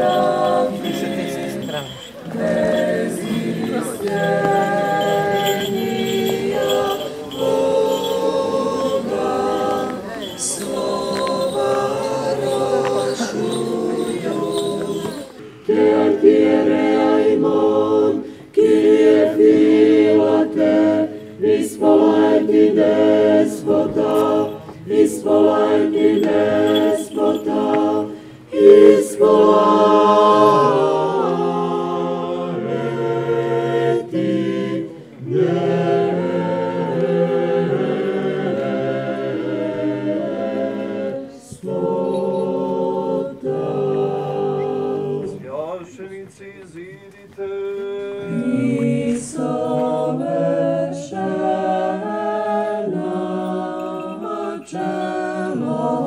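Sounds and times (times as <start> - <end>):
choir singing chant a cappella: 0.0 - 45.8, 46.7 - 56.0.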